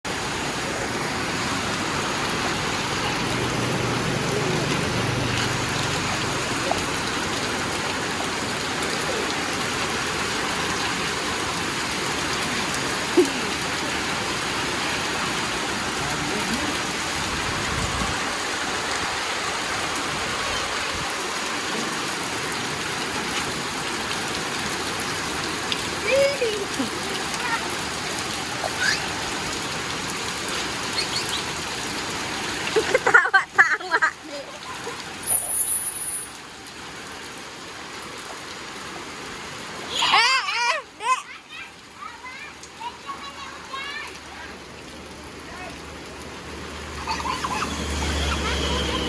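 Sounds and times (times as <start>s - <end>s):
heavy rain falling: 0.1s - 49.0s.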